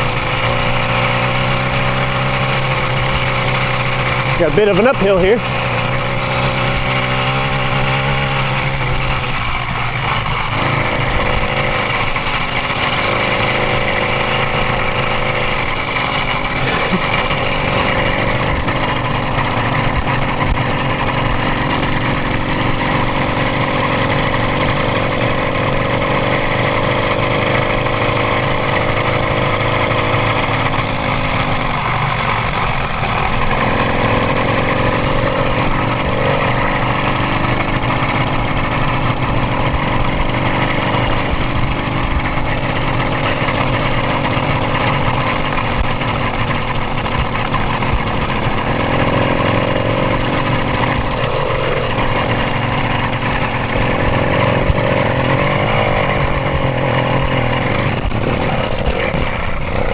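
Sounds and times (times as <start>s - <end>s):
two-stroke bicycle engine running: 0.0s - 59.9s.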